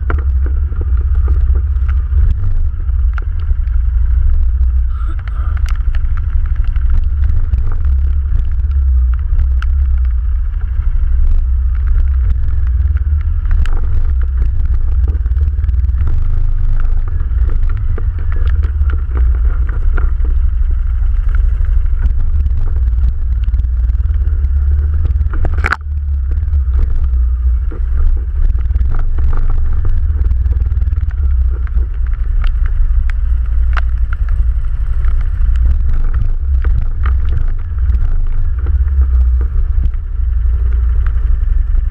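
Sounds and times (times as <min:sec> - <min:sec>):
atv engine rumbling: 0:00.0 - 0:41.9.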